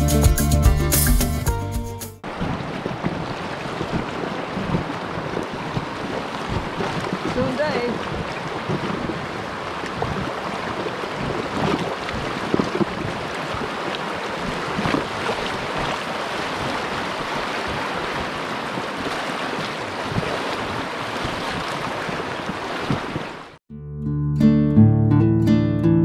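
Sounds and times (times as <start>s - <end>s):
river water rushing and splashing: 2.2s - 23.6s.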